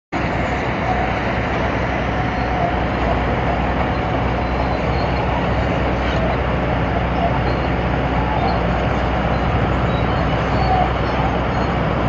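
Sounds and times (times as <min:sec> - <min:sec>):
heavy diesel engines running: 0:00.1 - 0:12.0.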